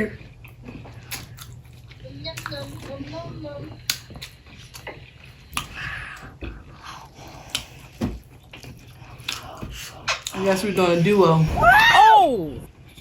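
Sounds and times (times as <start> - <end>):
close-up chewing and crunching: 0.0 - 11.2.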